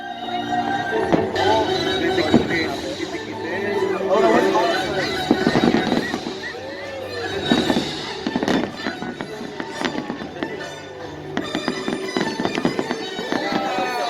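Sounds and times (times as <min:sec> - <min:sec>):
music: 0:00.0 - 0:14.0
fireworks bangs and crackles: 0:01.0 - 0:14.0.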